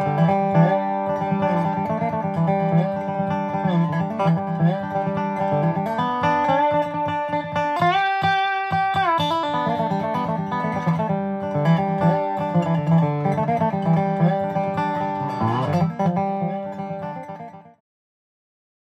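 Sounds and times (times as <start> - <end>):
plucked guitar music: 0.0 - 17.8.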